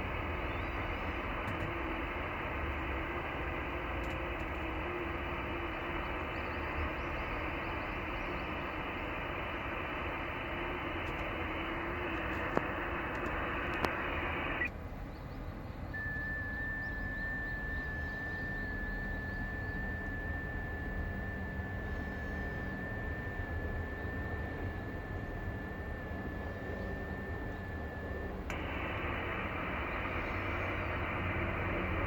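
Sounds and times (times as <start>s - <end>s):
steady high radio tone: 0.0s - 14.7s, 15.8s - 32.0s
radio receiver hiss: 0.0s - 14.8s, 15.9s - 32.0s
sharp clicks: 0.2s - 14.7s, 16.8s - 32.0s.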